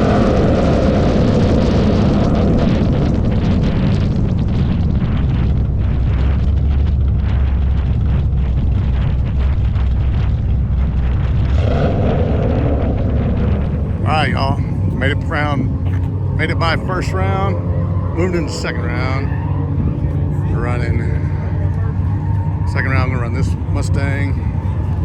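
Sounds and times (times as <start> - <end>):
race car engine at full throttle: 0.0 - 25.0.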